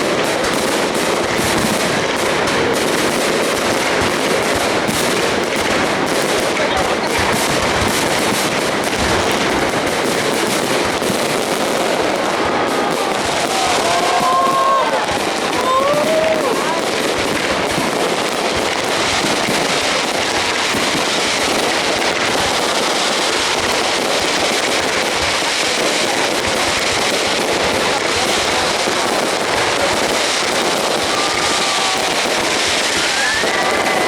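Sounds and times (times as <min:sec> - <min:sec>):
fireworks crackling and popping: 0:00.0 - 0:34.0.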